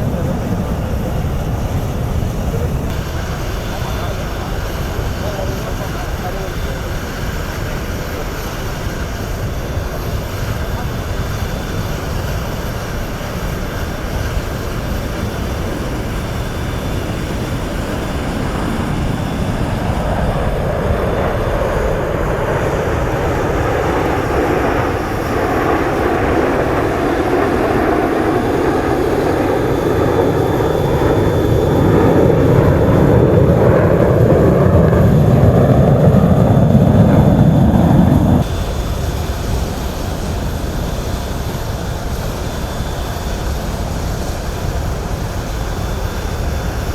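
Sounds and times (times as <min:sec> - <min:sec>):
jet engine roar: 0:00.0 - 0:46.9.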